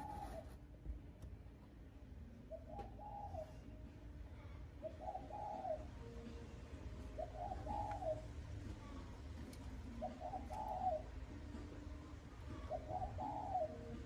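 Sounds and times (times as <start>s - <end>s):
dove cooing: 0.0s - 0.6s, 2.4s - 3.8s, 4.4s - 14.0s.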